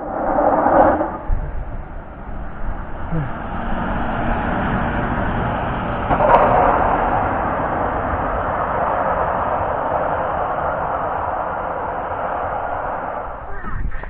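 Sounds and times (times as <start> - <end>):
snowplough truck passing: 0.0 - 13.5.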